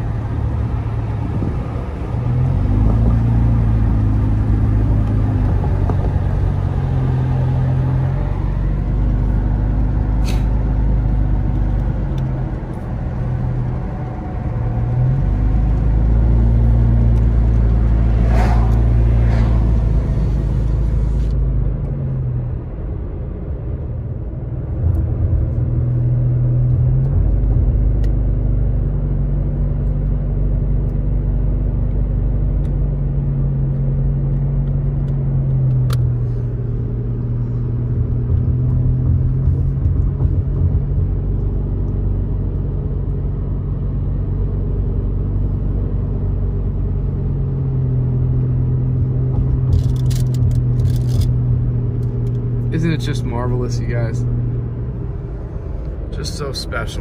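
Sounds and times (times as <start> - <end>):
car engine drone: 0.0 - 57.0
road noise: 0.0 - 57.0.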